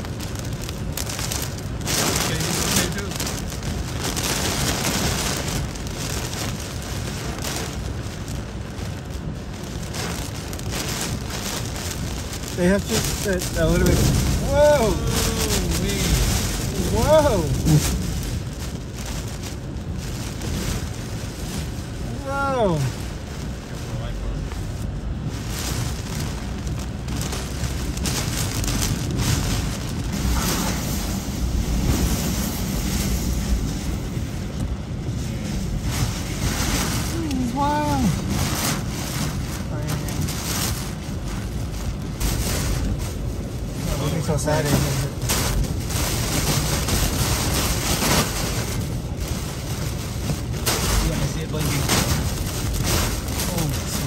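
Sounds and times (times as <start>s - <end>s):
hurricane wind rumbling: 0.0s - 54.0s
rain lashing windshield: 0.0s - 54.0s.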